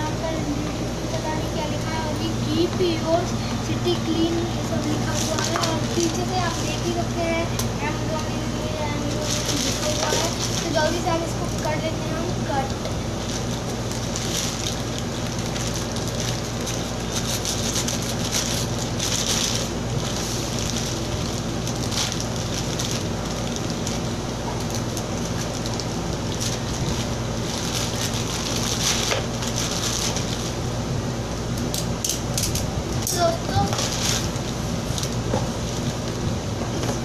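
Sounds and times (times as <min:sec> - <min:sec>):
steady low hum: 0:00.0 - 0:37.0
plastic mailer crinkling: 0:03.9 - 0:30.6, 0:33.2 - 0:36.2.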